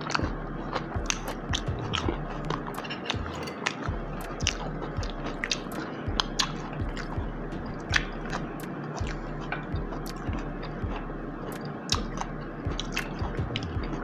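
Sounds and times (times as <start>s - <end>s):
chewing crunchy coleslaw: 0.0s - 14.0s
mouth clicks: 0.0s - 14.0s.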